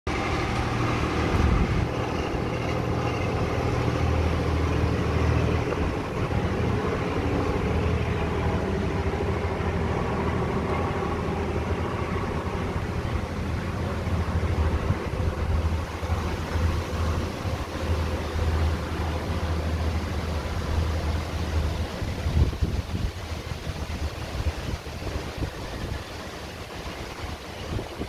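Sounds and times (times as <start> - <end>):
storm wind gusting: 0.1 - 28.0.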